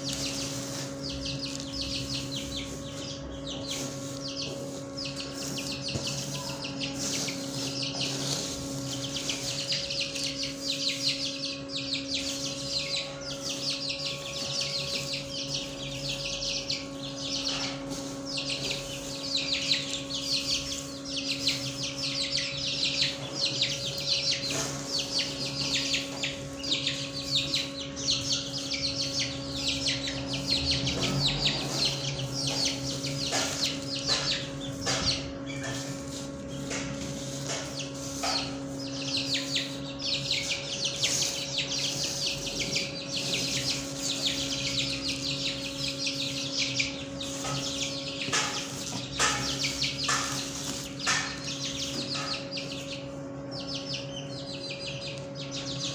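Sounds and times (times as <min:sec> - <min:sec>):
small birds chirping and twittering: 0:00.0 - 0:55.9
steady low hum: 0:00.0 - 0:55.9.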